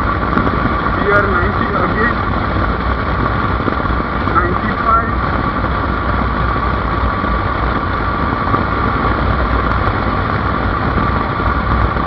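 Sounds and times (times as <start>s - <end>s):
motorcycle engine drone: 0.0s - 12.0s
road noise: 0.0s - 12.0s
rushing wind: 0.0s - 12.0s.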